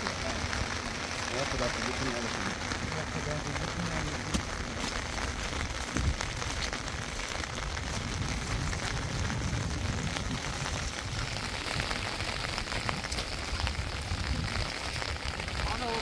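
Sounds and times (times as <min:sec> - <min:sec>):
low rumble: 0:00.0 - 0:16.0
rain falling: 0:00.0 - 0:16.0.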